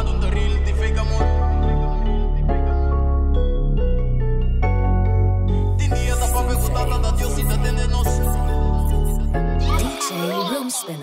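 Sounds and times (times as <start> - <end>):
instrumental hip-hop beat: 0.0 - 11.0.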